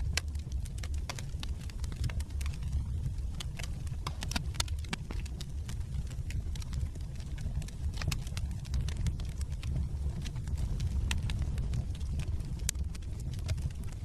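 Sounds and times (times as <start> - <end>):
fire low rumble: 0.0 - 14.0
logs crackling and popping: 0.0 - 14.0.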